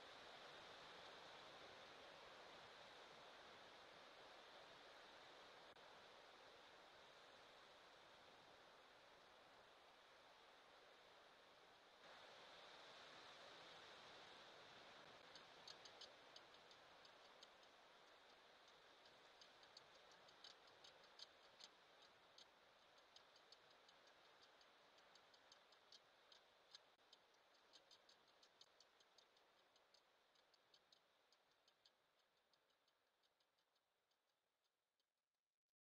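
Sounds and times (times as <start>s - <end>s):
faint hiss: 0.0s - 32.6s
faint high-pitched ticks: 0.0s - 34.8s.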